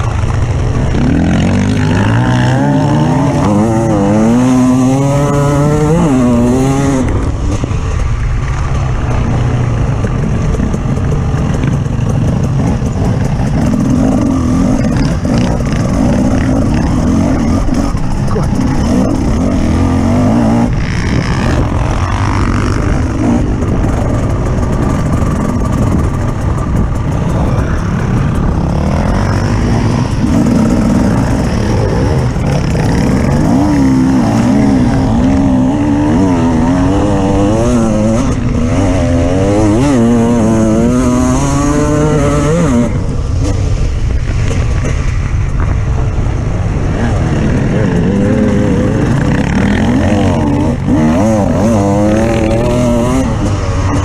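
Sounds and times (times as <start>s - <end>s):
off-road vehicle engine revving: 0.0s - 7.4s, 9.9s - 43.8s, 46.9s - 54.0s.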